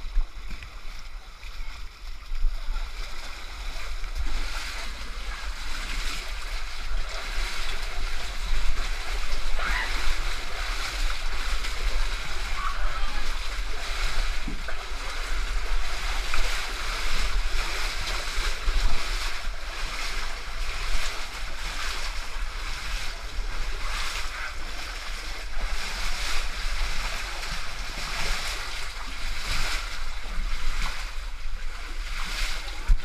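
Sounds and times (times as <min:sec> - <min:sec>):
splashing through muddy water: 0:00.0 - 0:33.0.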